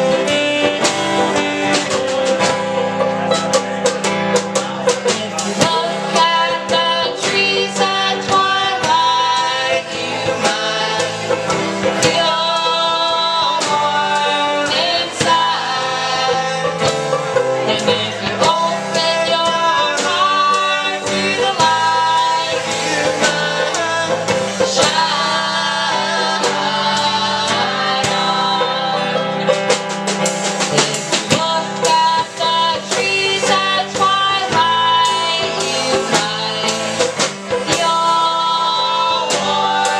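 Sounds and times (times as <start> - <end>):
folk band playing: 0.0 - 39.9.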